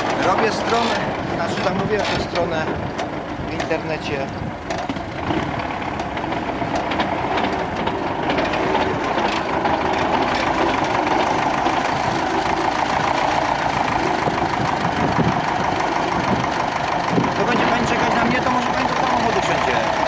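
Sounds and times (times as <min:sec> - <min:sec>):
machine rattling and clattering: 0:00.0 - 0:20.0
tractor engine under load: 0:00.0 - 0:20.0.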